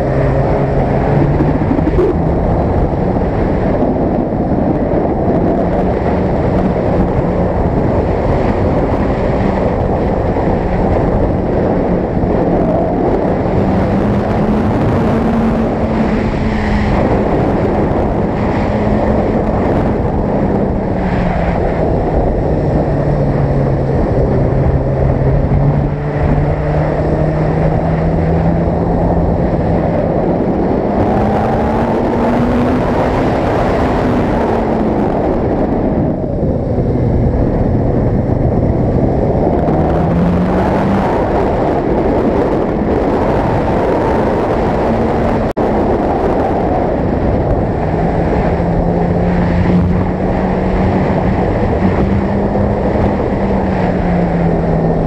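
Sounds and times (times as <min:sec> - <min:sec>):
motorcycle engine revving: 0:00.0 - 0:55.0
wind rush over microphone: 0:00.0 - 0:55.0.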